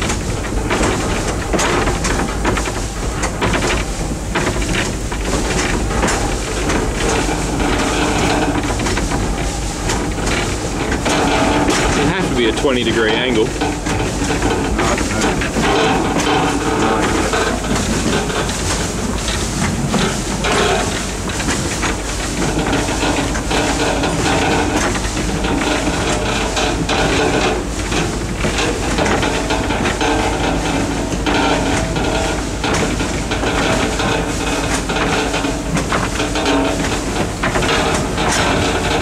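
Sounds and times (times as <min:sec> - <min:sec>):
running gear knocking and clattering: 0:00.0 - 0:39.0
train rumbling on track: 0:00.0 - 0:39.0.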